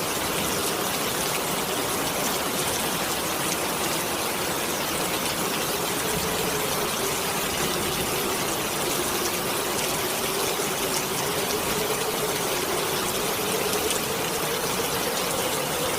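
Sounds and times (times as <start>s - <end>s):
heavy rain: 0.0s - 15.9s
wind howling: 2.8s - 15.9s.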